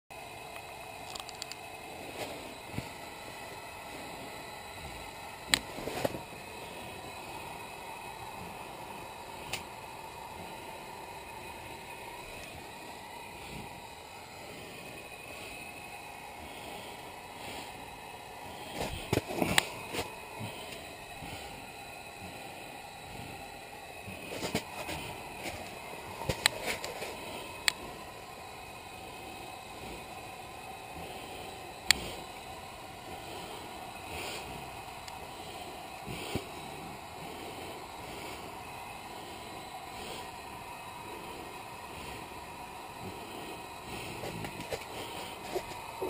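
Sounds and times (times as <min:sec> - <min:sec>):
low hum and hiss: 0:00.1 - 0:46.0.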